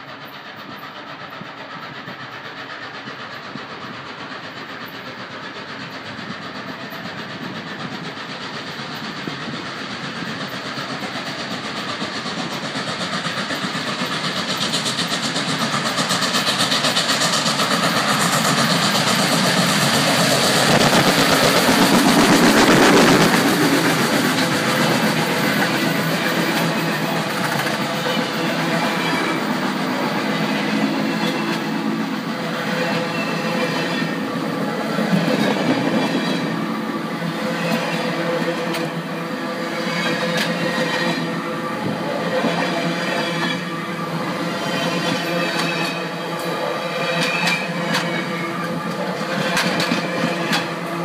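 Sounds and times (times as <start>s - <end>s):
steam locomotive exhaust beats: 0.0s - 51.0s.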